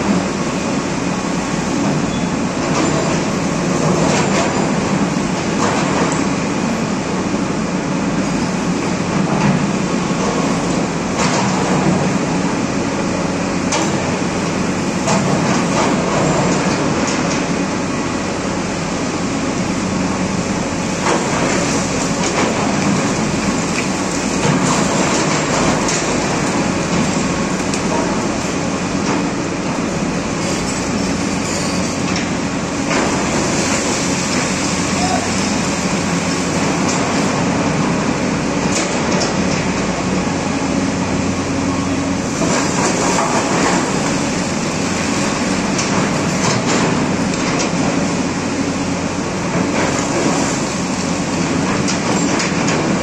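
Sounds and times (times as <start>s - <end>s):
excavator engine and hydraulics: 0.0s - 53.0s.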